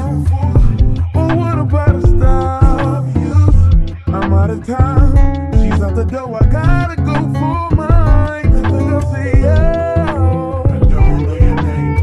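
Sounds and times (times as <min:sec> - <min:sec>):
pulsing bass beat: 0:00.0 - 0:12.0
song sung over guitar: 0:00.0 - 0:12.0.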